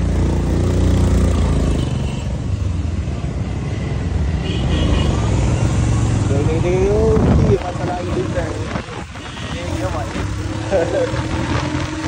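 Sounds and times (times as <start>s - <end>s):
rushing road and wind noise: 0.0s - 12.0s.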